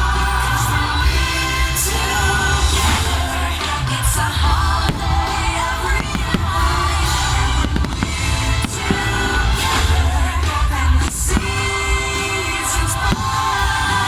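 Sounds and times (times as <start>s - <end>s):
orchestral song with singing: 0.0s - 14.0s
fireworks cracking and banging: 1.6s - 14.0s.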